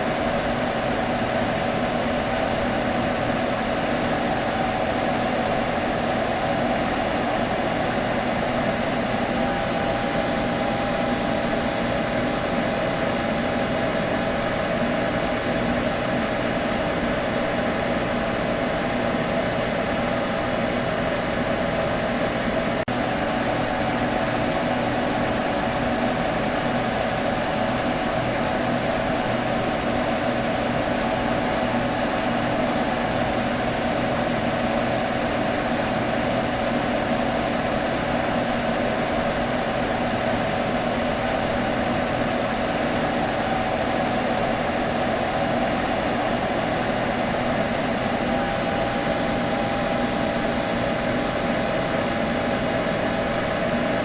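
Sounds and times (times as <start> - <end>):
computer fan humming: 0.0 - 54.0.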